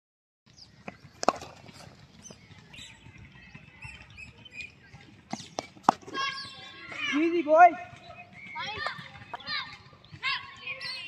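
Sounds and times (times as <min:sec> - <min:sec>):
small birds chirping: 0:00.5 - 0:11.0.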